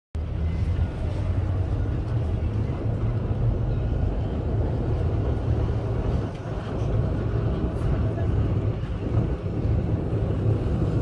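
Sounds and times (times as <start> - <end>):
tram running rumble: 0.2 - 11.0
wind buffeting microphone: 0.4 - 11.0.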